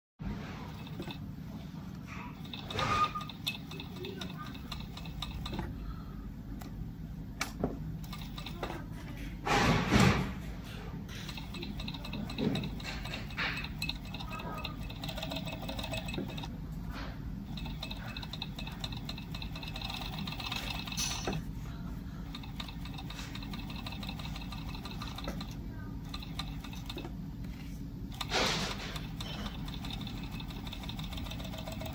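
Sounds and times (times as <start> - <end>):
low workshop hum: 0.2 - 31.9
sewing machine whining: 0.5 - 6.2, 8.0 - 8.9, 11.1 - 21.5, 22.2 - 27.2, 28.1 - 31.9.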